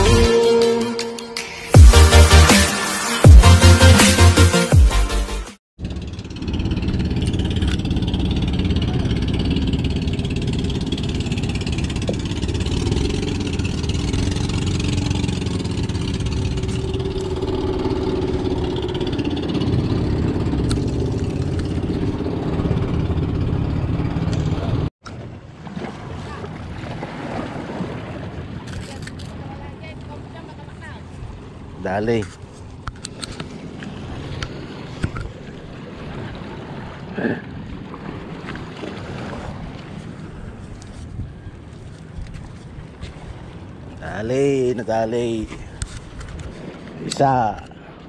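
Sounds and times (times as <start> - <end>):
fishing boat engines droning: 5.8 - 48.0.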